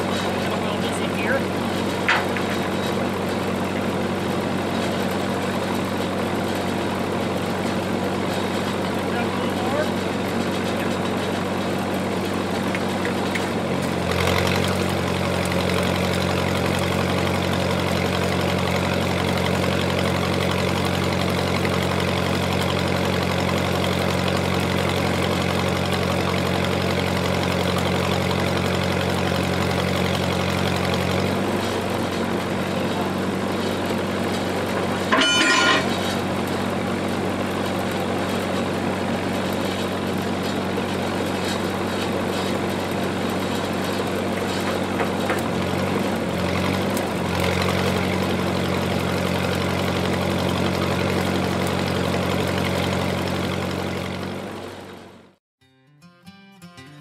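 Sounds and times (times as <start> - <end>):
generator running: 0.0 - 55.4.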